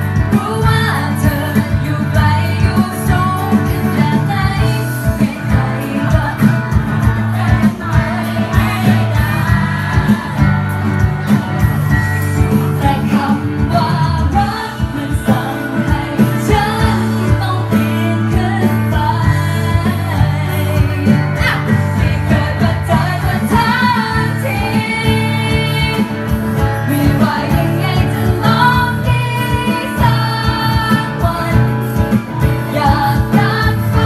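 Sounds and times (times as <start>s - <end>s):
acoustic guitar: 0.0s - 34.0s
woman singing into a microphone: 0.0s - 34.0s
steady beat: 5.1s - 34.0s.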